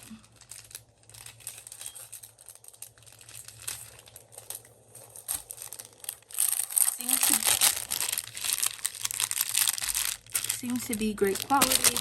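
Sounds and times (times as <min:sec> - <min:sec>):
crinkly material rustling: 0:00.0 - 0:12.0.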